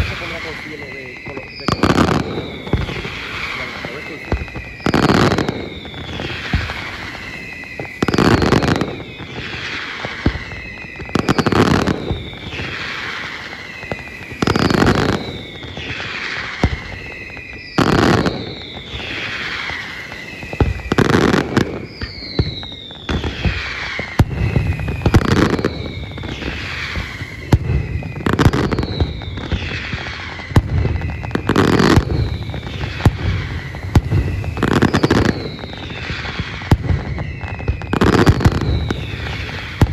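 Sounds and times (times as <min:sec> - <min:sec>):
falling whistle tone: 0:00.0 - 0:39.9.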